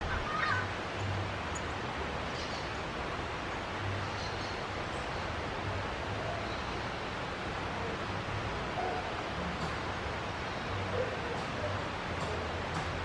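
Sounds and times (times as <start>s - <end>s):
outdoor hiss and rustle: 0.0s - 13.0s.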